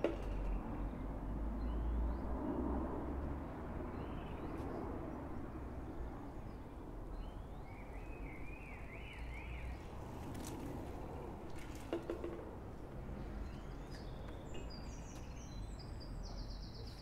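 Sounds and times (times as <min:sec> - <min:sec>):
distant traffic rumble: 0:00.0 - 0:17.0.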